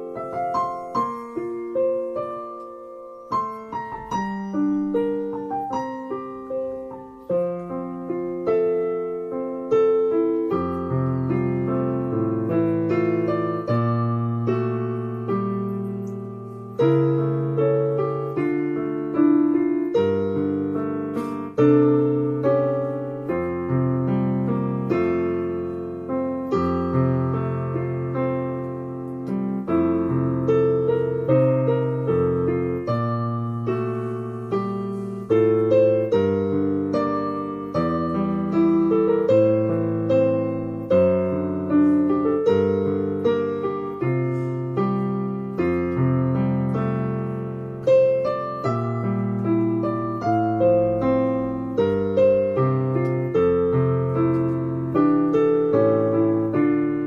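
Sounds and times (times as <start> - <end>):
digital piano melody: 0.0 - 57.0.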